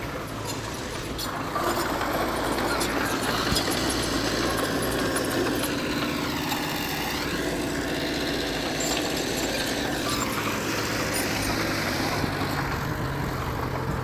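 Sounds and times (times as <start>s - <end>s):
heavy diesel machinery running: 0.0s - 14.0s.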